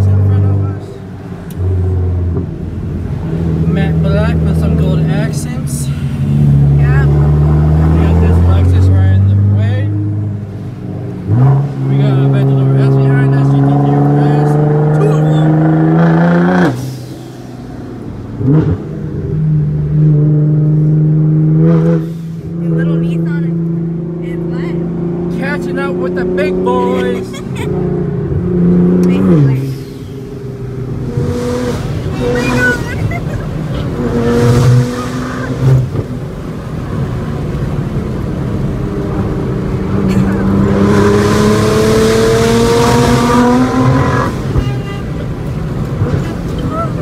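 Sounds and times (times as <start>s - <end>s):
car engine from inside cabin: 0.0s - 47.0s
engine revving: 0.0s - 47.0s.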